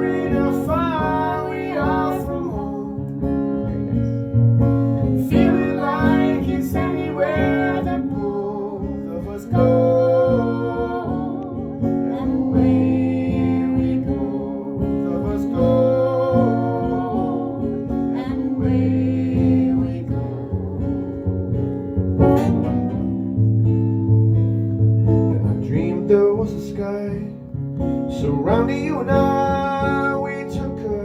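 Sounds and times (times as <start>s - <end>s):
acoustic guitar playing: 0.0s - 31.0s.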